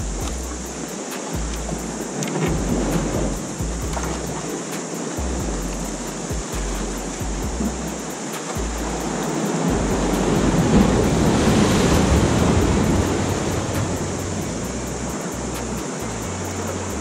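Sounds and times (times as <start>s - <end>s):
sea waves washing over rocks: 0.0s - 17.0s.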